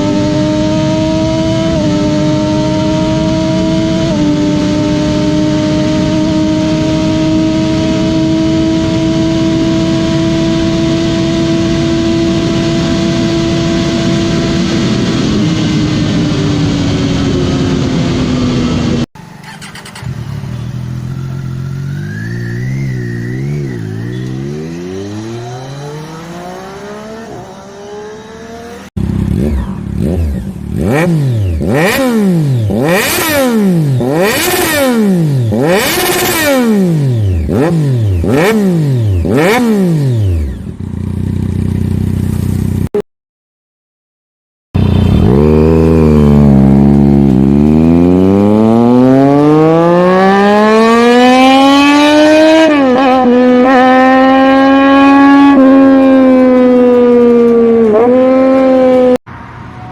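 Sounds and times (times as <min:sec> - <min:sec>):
motorcycle engine revving: 0:00.0 - 0:43.0, 0:44.8 - 0:59.4.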